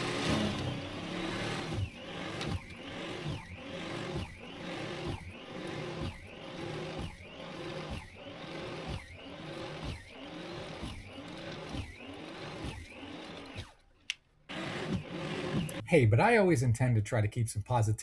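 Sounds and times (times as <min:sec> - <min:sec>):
small motor cycling: 0:00.0 - 0:13.9, 0:14.5 - 0:15.8.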